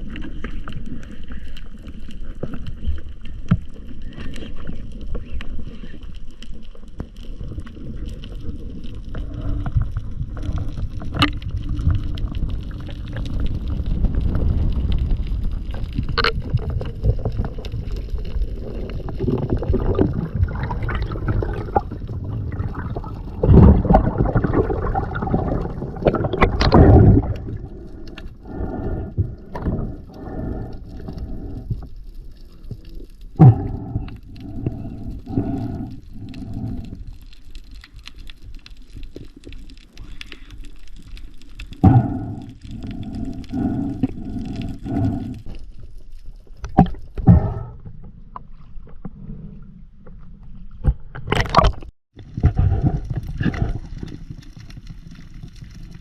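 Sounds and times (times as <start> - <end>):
low rumble of moving water: 0.0 - 56.0.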